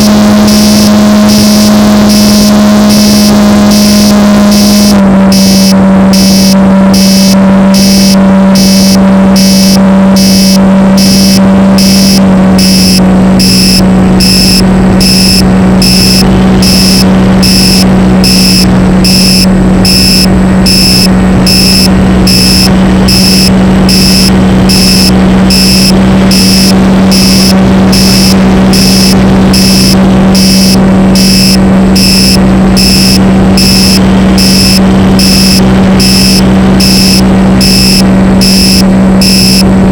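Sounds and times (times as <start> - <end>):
model plane motor and propeller: 0.0 - 39.9
pulsing buzz: 0.0 - 39.9.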